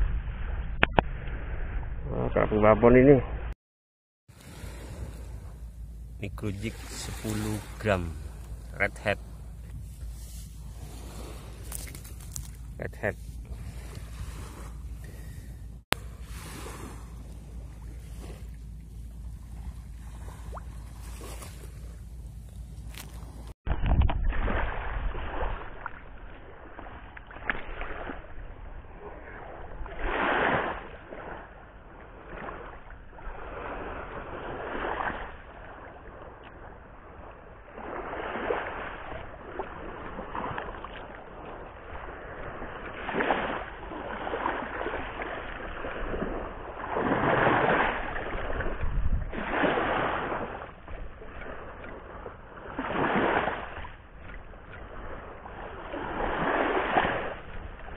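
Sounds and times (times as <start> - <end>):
sea waves breaking on shore: 4.3 - 57.9.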